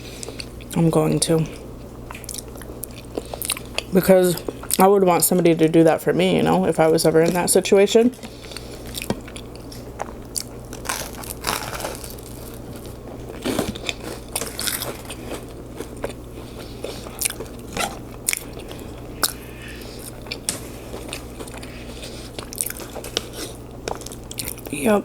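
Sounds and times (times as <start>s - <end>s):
person chewing food: 0.0s - 0.8s, 1.5s - 4.8s, 8.2s - 24.7s
faint steady hum: 0.0s - 25.0s.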